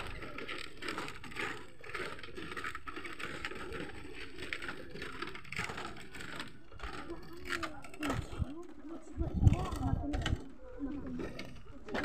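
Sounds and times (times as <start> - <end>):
footsteps on creaking bamboo slats: 0.0 - 12.0.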